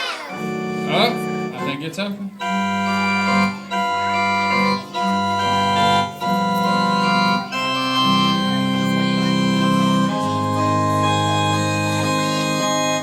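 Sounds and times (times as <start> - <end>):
organ chords: 0.0 - 13.0.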